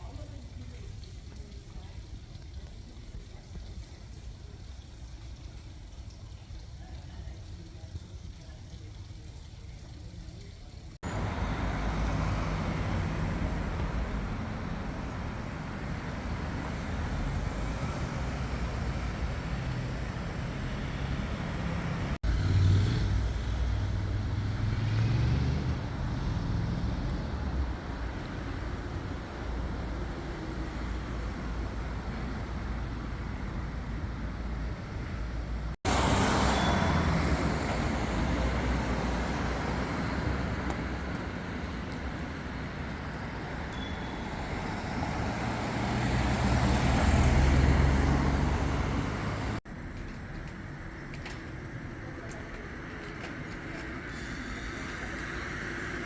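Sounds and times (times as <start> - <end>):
road traffic: 10.0 - 56.0.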